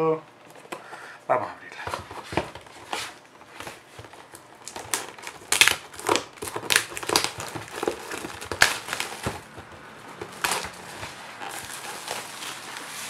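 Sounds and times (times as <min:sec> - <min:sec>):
plastic shrink-wrap crinkling: 0:02.1 - 0:13.0.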